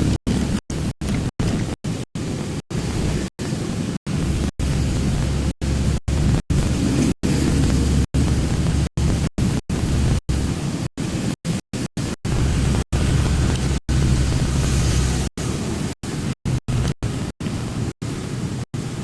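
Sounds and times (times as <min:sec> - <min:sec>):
truck rumbling on road: 0:00.0 - 0:10.6, 0:12.0 - 0:18.9.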